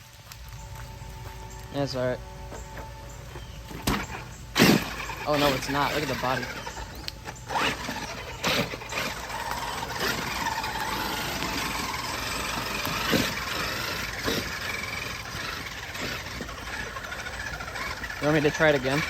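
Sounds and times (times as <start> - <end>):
radio-controlled truck motor: 0.0 - 19.0.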